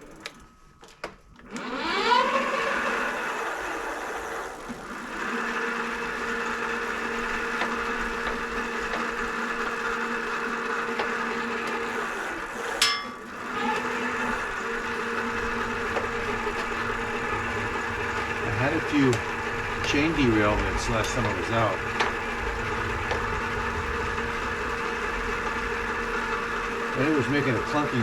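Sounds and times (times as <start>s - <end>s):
electric motor whine: 1.4s - 28.0s.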